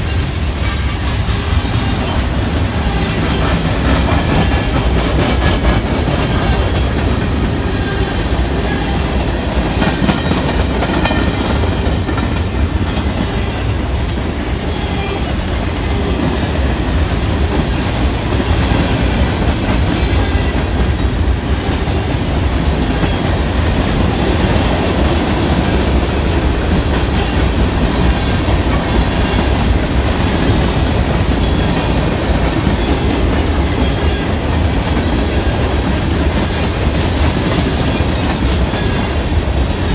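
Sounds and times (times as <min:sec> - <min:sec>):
train rumbling and rattling past: 0:00.0 - 0:39.9.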